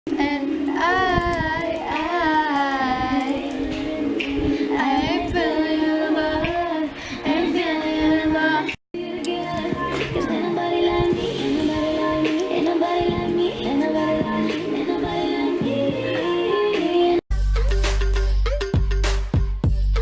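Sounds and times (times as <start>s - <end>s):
music with high singing voice: 0.1s - 20.0s.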